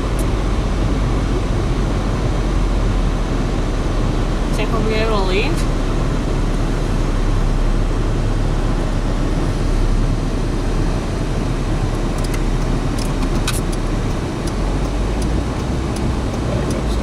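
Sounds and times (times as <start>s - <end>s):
vehicle engine rumble in cabin: 0.0s - 17.0s.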